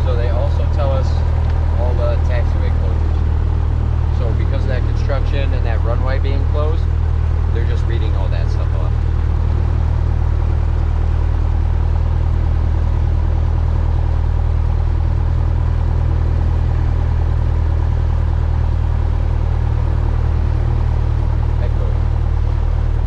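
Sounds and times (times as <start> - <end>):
propeller engine drone: 0.0 - 23.0.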